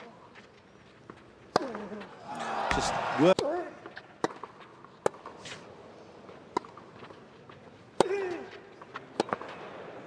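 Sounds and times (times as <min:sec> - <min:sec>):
rackets hitting tennis ball: 0:01.1 - 0:05.7, 0:06.3 - 0:10.0.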